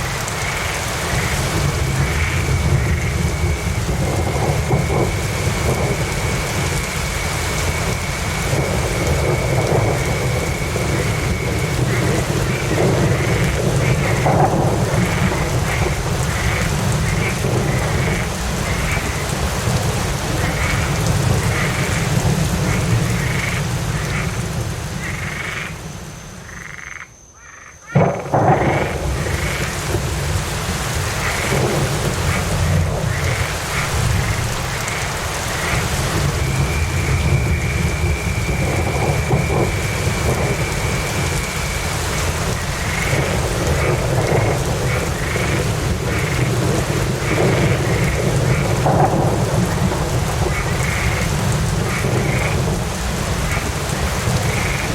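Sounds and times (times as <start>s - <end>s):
low rumble of thunder: 0.0s - 26.9s, 27.9s - 54.9s
steady rain: 0.0s - 27.0s, 27.9s - 54.9s.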